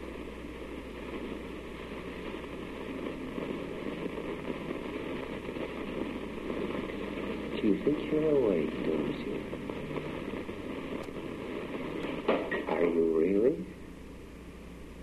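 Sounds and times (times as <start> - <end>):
low mains hum: 0.0 - 15.0
recording hiss and crackle: 0.0 - 15.0.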